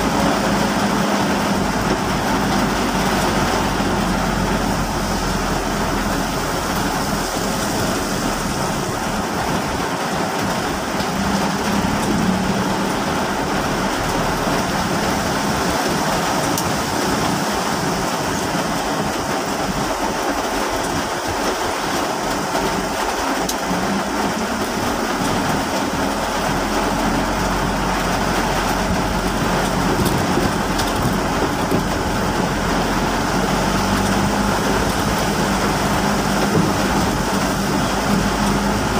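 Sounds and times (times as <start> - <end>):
car driving hum: 0.0 - 38.9
heavy rain on car roof: 0.0 - 38.9.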